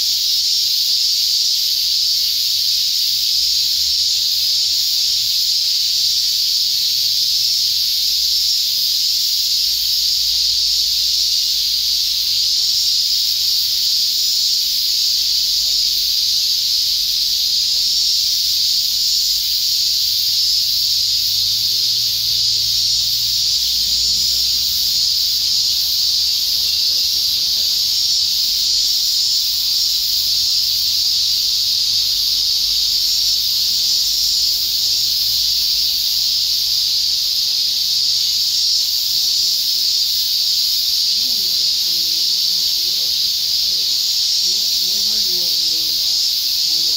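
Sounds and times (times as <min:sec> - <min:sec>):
cicadas buzzing: 0:00.0 - 0:46.9.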